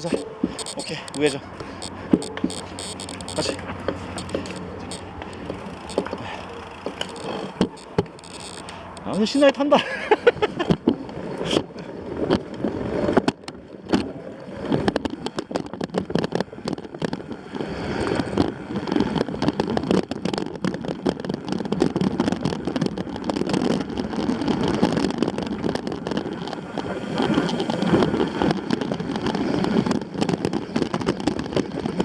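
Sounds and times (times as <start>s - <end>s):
bike rattling and knocking: 0.0s - 32.0s
wind rushing over microphone: 0.0s - 32.0s.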